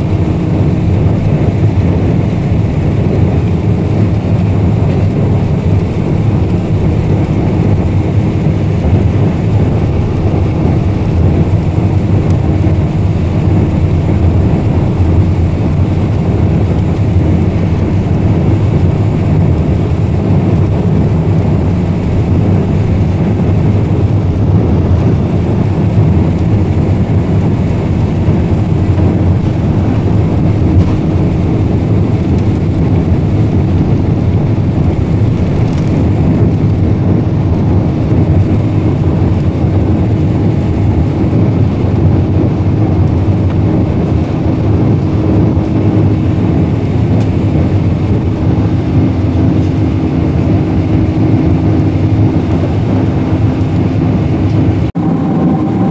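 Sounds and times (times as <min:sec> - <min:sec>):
airplane cabin engine rush: 0:00.0 - 0:55.9.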